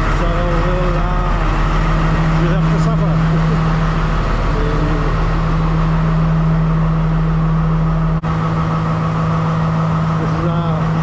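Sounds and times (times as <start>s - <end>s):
locomotive engine idling: 0.0s - 11.0s.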